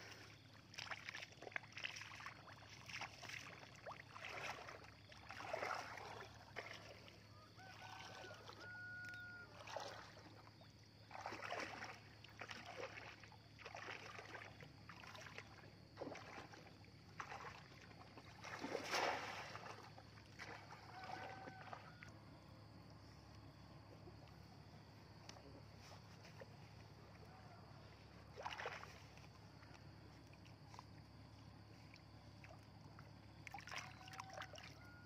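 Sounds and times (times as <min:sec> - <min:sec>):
wading through shallow water: 0:00.0 - 0:35.0.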